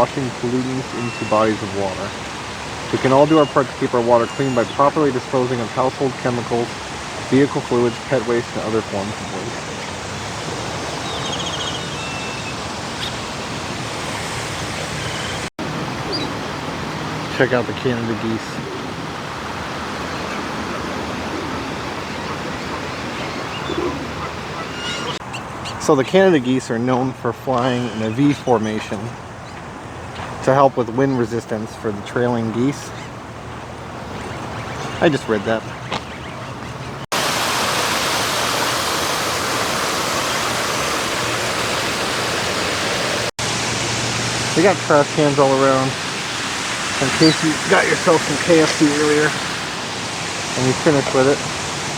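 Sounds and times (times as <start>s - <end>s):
rushing water: 0.0s - 51.9s.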